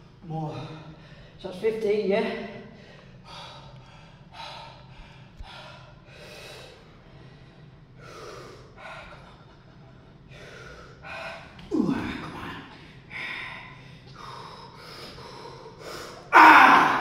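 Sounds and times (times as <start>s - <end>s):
man breathing heavily: 0.4s - 1.4s, 2.6s - 17.0s.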